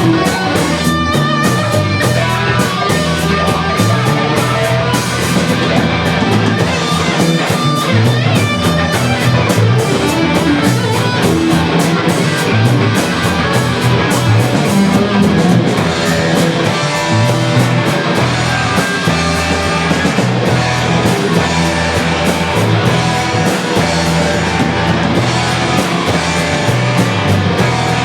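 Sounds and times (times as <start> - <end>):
bass guitar: 0.0 - 28.0
distorted electric guitar: 0.0 - 28.0
drums: 0.0 - 28.0.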